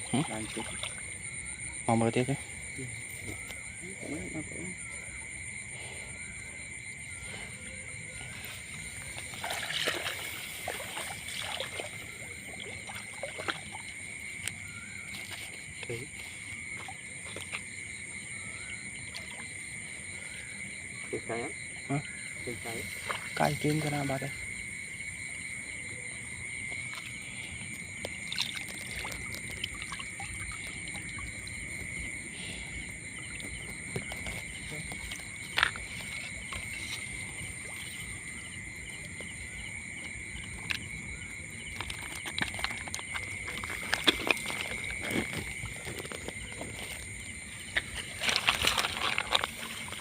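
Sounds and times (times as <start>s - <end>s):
high-pitched insect chorus: 0.0s - 50.0s
water splashing and trickling: 0.0s - 50.0s.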